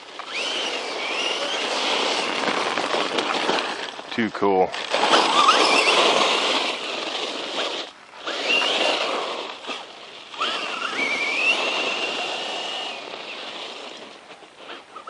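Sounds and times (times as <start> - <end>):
electric motor whining: 0.0 - 3.6, 4.9 - 15.0
toy truck running across ground: 0.0 - 15.0.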